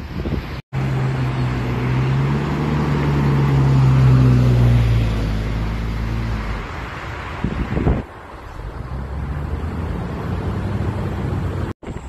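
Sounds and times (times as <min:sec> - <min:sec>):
diesel truck engine drone: 0:00.0 - 0:12.0
traffic noise: 0:00.0 - 0:12.0
wind: 0:00.0 - 0:12.0.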